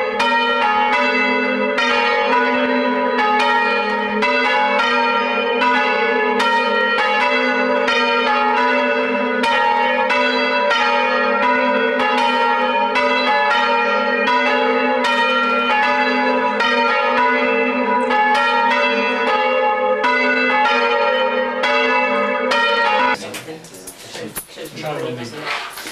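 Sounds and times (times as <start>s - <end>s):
church bells ringing: 0.0s - 25.9s.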